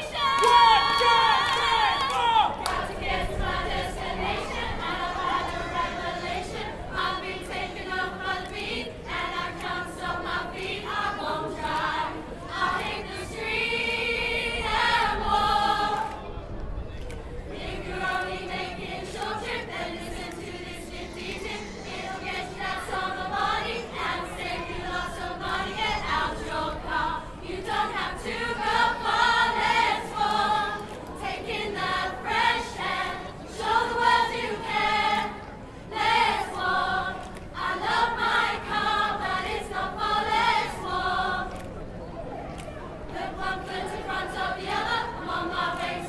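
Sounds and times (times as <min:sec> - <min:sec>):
group of women singing: 0:02.6 - 0:16.2, 0:17.5 - 0:41.7, 0:43.1 - 0:46.0.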